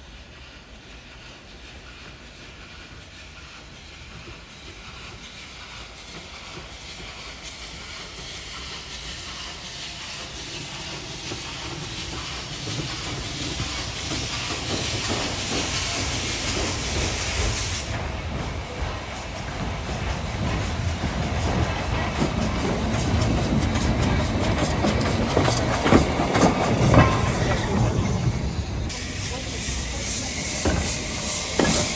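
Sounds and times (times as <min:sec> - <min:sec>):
steam hissing: 0:00.0 - 0:31.9
steam locomotive running: 0:00.0 - 0:31.9.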